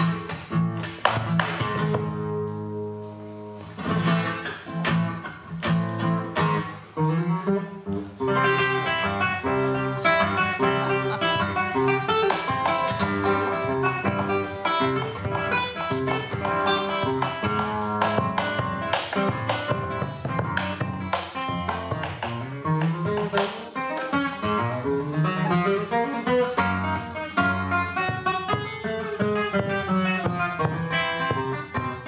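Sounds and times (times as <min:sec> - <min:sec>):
classical guitar playing: 0:00.0 - 0:32.0.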